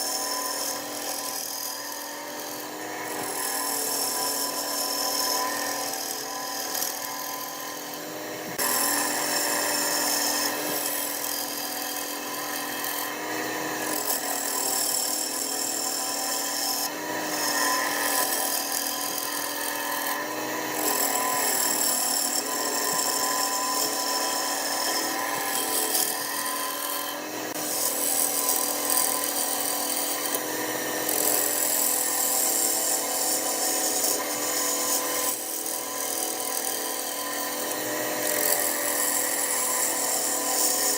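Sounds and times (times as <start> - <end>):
tool scraping spinning wood: 0.0 - 40.9.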